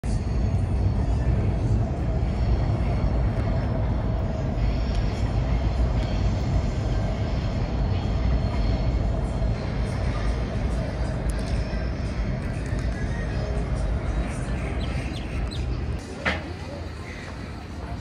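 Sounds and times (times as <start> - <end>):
city background rumble: 0.0 - 18.0.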